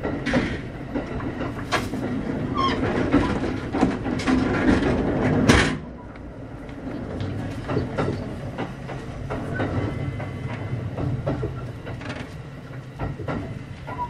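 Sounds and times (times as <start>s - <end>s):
train interior rumble: 0.0s - 14.0s
wheel clicks over rail joints: 0.0s - 14.0s.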